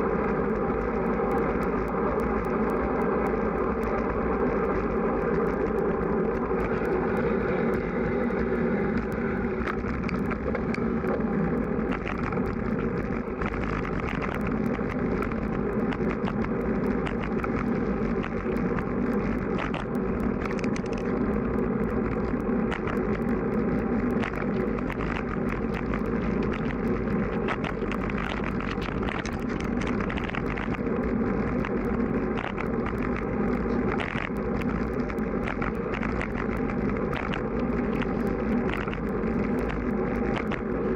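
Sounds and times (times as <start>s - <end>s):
small clicks and ticks: 0.0s - 40.9s
wind buffeting microphone: 0.0s - 40.9s.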